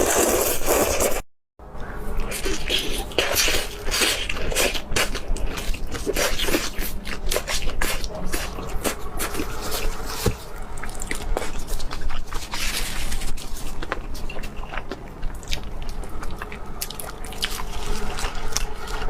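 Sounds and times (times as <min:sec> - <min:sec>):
close chewing mouth sounds: 0:00.0 - 0:01.2, 0:02.3 - 0:10.0, 0:10.7 - 0:19.0.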